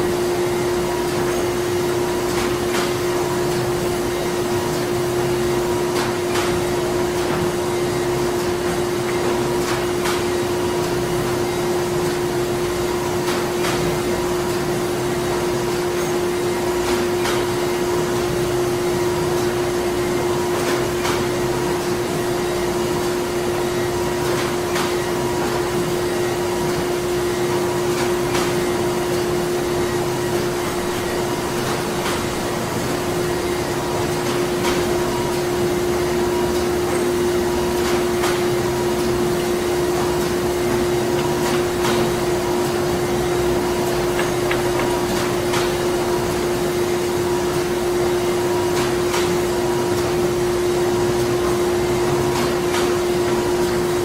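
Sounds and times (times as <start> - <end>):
printing machinery droning: 0.0 - 54.0.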